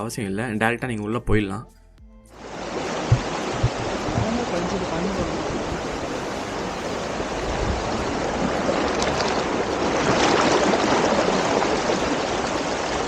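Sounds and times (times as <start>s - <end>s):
waterfall rushing and splashing: 2.4s - 13.0s.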